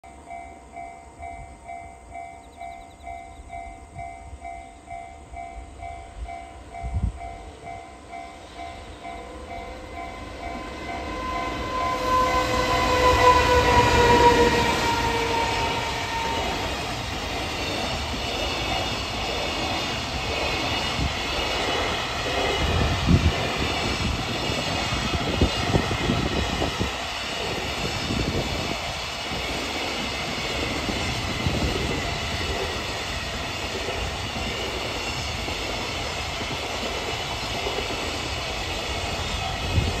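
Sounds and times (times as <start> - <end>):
electric locomotive whine: 0.0 - 40.0.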